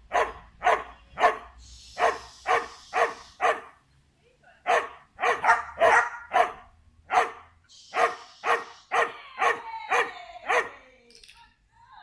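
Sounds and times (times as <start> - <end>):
dog barking: 0.1 - 3.8, 4.6 - 10.8.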